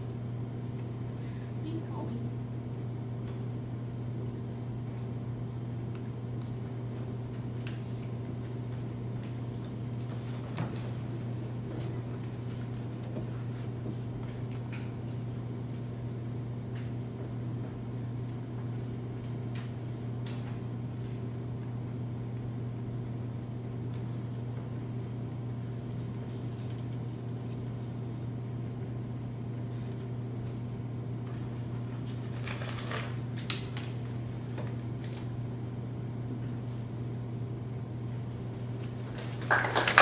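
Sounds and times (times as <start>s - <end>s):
low background hum: 0.0s - 40.0s.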